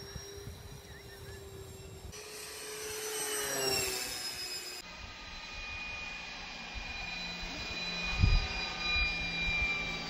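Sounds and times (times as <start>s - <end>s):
model plane motors whining: 0.0s - 10.0s.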